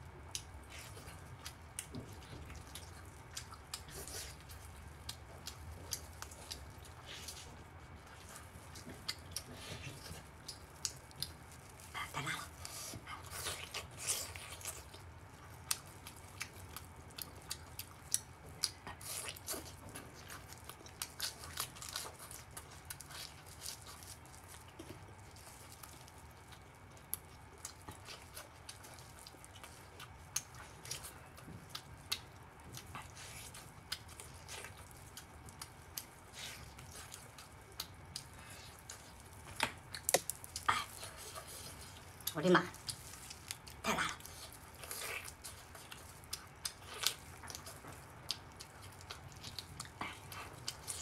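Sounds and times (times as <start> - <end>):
wet biting and chewing: 0.1 - 51.0.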